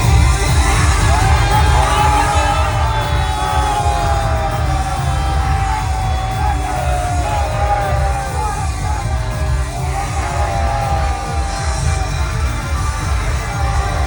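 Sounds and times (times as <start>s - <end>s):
heavy pulsing bass beat: 0.0s - 14.0s
pop music with singing: 0.0s - 14.0s.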